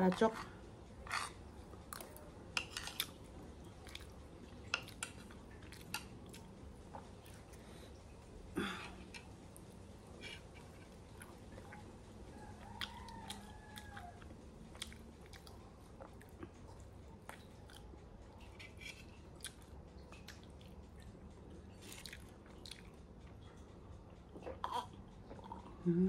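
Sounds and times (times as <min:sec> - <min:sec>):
person chewing pastry: 0:00.9 - 0:25.9.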